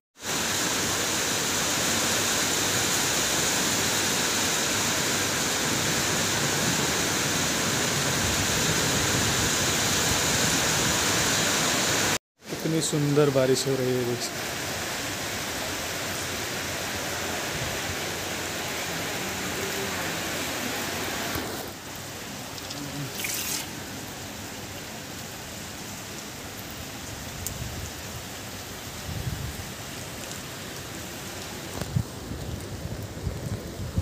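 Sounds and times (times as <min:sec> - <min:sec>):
rain on wet paving: 0:00.2 - 0:34.0.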